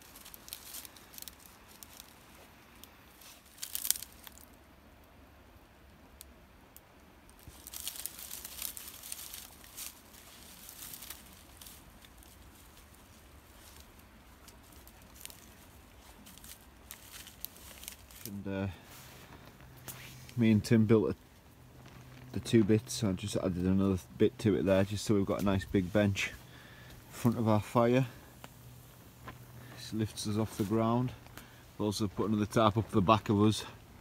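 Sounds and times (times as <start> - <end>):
rustling and crunching: 0.0 - 4.7, 7.2 - 34.0.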